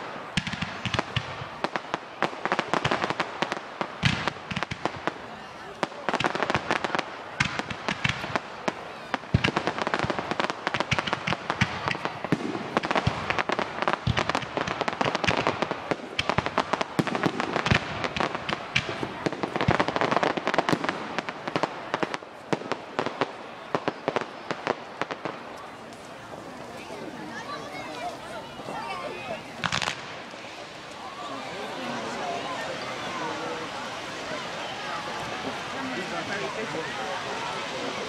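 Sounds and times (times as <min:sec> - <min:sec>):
fireworks popping and crackling: 0:00.0 - 0:38.0
loud firework bangs: 0:00.0 - 0:38.0.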